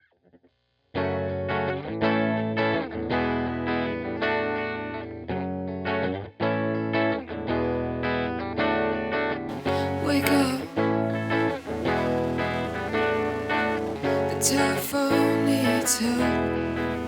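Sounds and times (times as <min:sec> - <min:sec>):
electric guitar strumming chords: 0:01.0 - 0:17.0.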